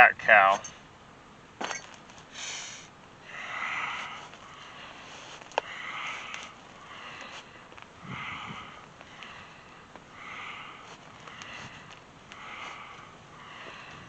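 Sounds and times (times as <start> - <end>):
breathing through the nose: 2.3 - 14.0.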